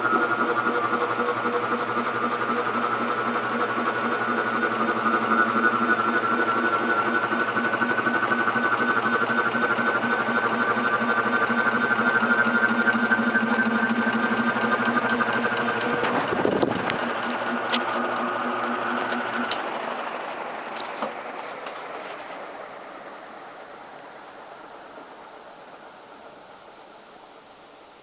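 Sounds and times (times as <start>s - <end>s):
ceiling fan electrical buzz: 0.0s - 28.0s.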